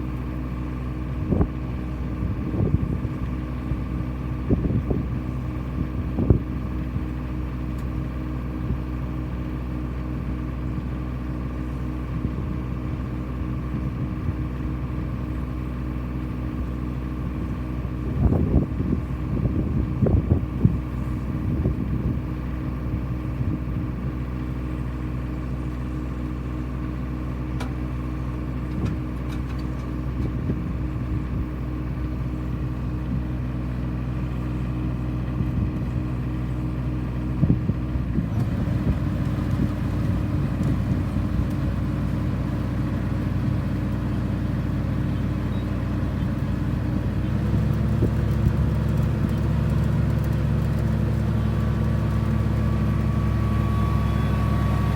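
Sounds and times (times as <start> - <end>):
farm machinery engine running: 0.0 - 54.9.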